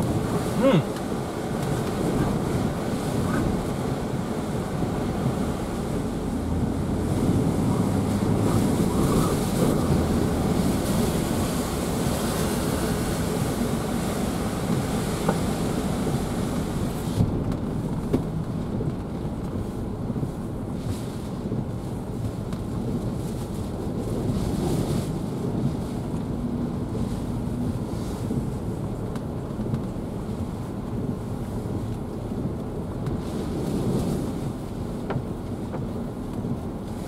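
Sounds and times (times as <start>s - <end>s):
tyres on wet road: 0.0s - 37.0s
wind and rain buffeting car: 0.0s - 37.0s.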